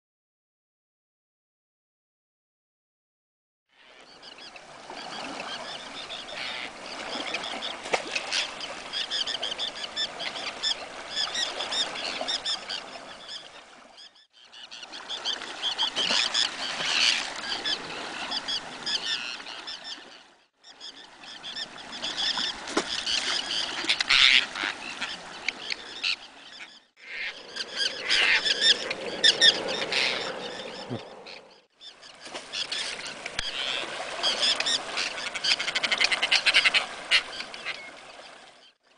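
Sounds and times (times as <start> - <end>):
terns calling: 3.7 - 38.3.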